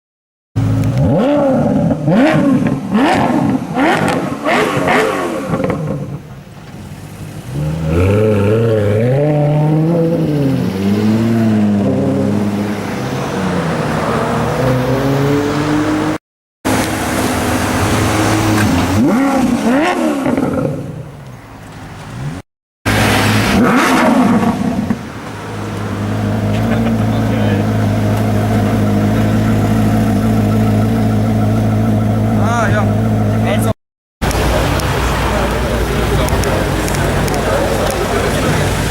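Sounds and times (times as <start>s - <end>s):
car engine revving: 0.6s - 38.9s.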